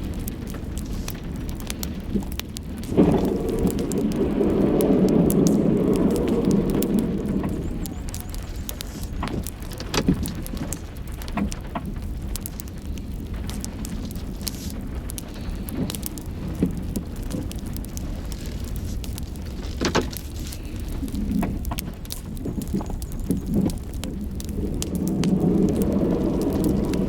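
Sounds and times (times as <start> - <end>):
vehicle running rumble: 0.0 - 27.0.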